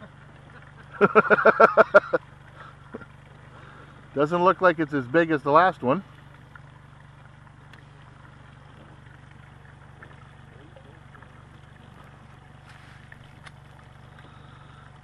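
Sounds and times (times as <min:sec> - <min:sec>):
boat motor idling: 0:00.0 - 0:15.0.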